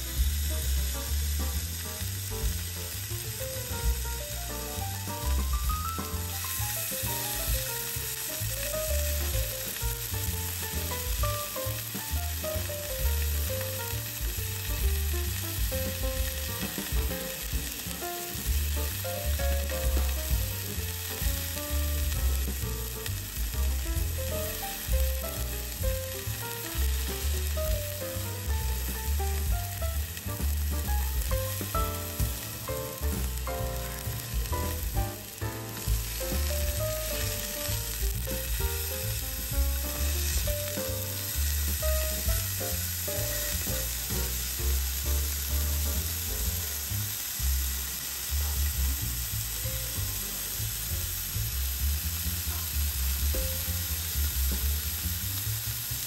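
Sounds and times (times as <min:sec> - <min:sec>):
beef sizzling on grill plate: 0:00.0 - 0:56.0
soft melodic background music: 0:00.3 - 0:47.3.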